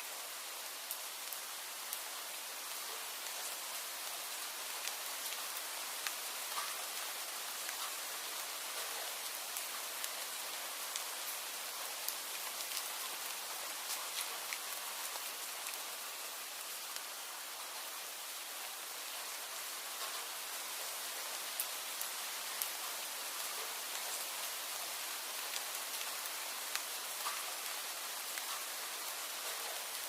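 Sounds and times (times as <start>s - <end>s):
steady rain falling: 0.0s - 30.0s
raindrops ticking on a surface: 0.1s - 30.0s.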